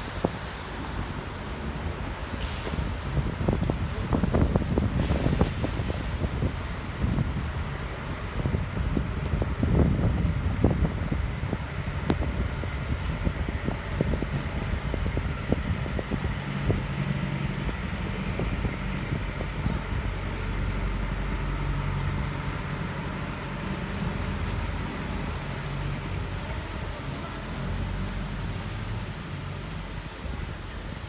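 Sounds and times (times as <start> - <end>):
low engine hum: 0.0 - 31.0
tyres hissing on wet road: 0.0 - 31.0.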